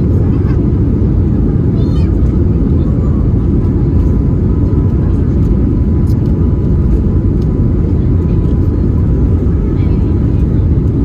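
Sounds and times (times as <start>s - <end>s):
jet airliner taking off: 0.0s - 11.0s.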